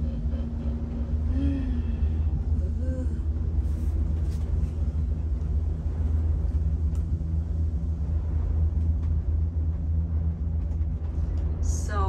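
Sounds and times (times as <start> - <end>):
gondola cabin low rumble: 0.0 - 12.0.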